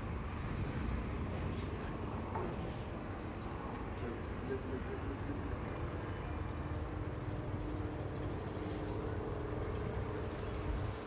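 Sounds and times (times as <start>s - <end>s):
engine rumbling and humming: 0.0s - 11.0s.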